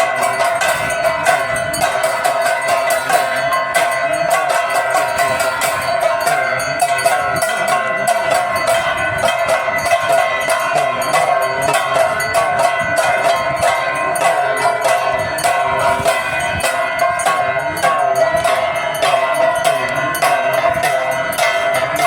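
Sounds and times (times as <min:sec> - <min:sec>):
bells and metal percussion clanging: 0:00.0 - 0:22.0
sustained wavering tone: 0:00.0 - 0:22.0.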